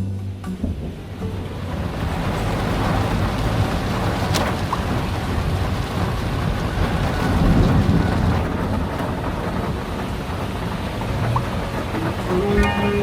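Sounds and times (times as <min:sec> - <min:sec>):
low rumble: 0:00.0 - 0:13.0
heavy rain: 0:00.3 - 0:13.0.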